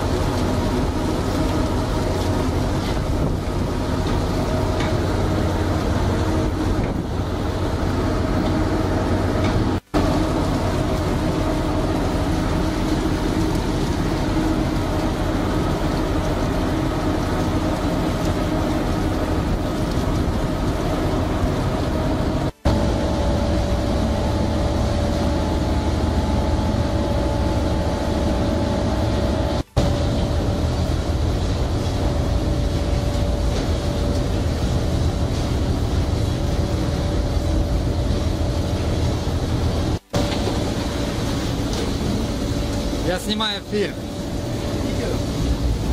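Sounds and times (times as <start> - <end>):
boat engine droning: 0.0 - 45.9
constant hum: 0.0 - 45.9
processing machinery and conveyors: 0.0 - 45.9.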